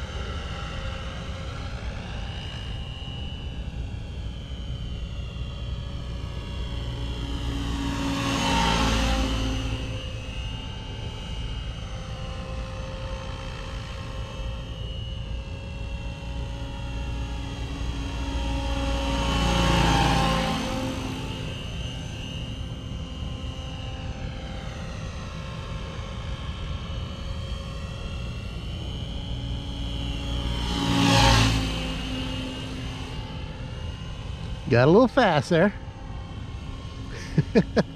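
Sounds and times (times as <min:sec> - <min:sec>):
model helicopter flying by: 0:00.0 - 0:37.9.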